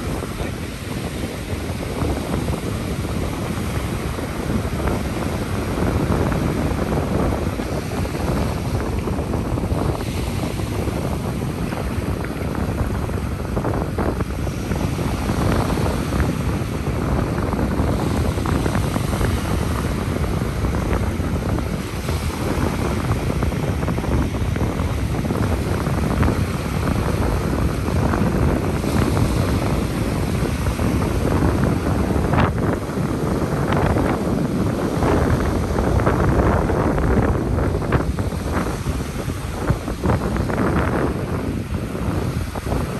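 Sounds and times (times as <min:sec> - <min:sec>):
ocean surf on beach: 0:00.0 - 0:42.9
wind buffeting microphone: 0:00.0 - 0:42.9.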